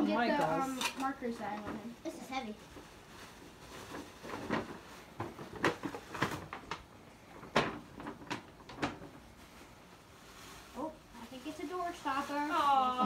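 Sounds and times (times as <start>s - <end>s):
tissue paper crinkling: 2.1s - 13.0s.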